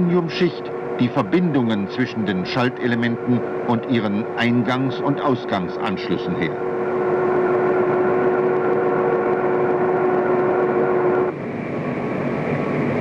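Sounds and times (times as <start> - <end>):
machine drone with held tone: 0.0 - 13.0
rough noisy machine hum: 0.0 - 13.0.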